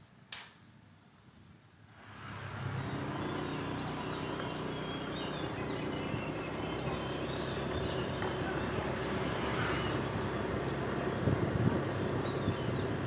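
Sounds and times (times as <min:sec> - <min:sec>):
motorcycle engine running: 0:02.5 - 0:13.0.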